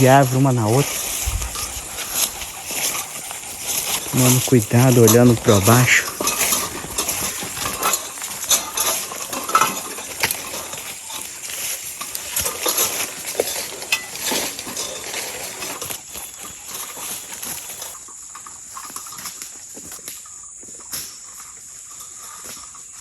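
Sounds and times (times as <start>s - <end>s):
brushing through undergrowth: 0.0s - 23.0s
footsteps crunching dry leaves: 0.0s - 23.0s
high insect drone: 0.0s - 23.0s.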